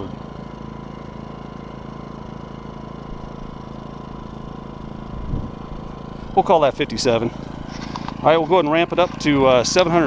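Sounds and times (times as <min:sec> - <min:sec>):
generator idling: 0:00.0 - 0:10.0.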